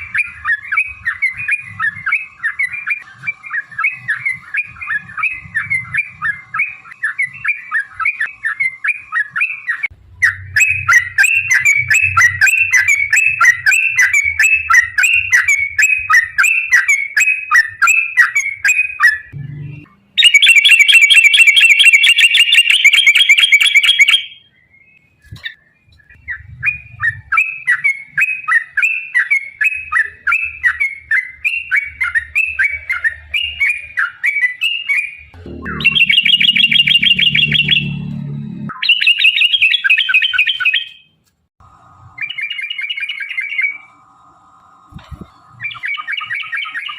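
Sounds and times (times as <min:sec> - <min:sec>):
bird rapid chirping: 0:00.0 - 0:24.5, 0:26.1 - 0:41.1
bird dense trill: 0:00.0 - 0:41.2, 0:42.2 - 0:43.9.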